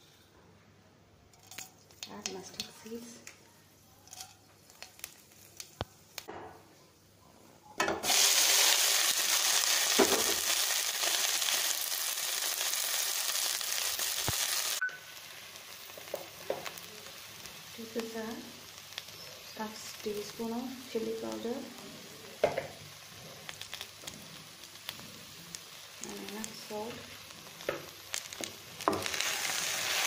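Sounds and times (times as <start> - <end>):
okra sizzling in hot oil: 1.3 - 6.3, 8.0 - 30.0.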